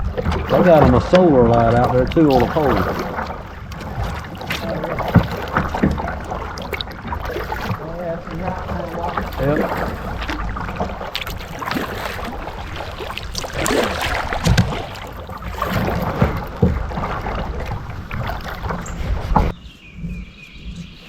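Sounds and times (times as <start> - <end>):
paddle splashing in water: 0.0 - 21.0
wind rumbling on microphone: 0.0 - 21.0.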